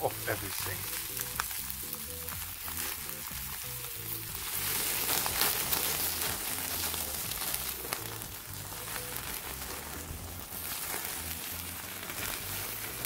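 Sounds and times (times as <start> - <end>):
background music: 0.0 - 13.0
patties sizzling on grill: 0.0 - 13.0.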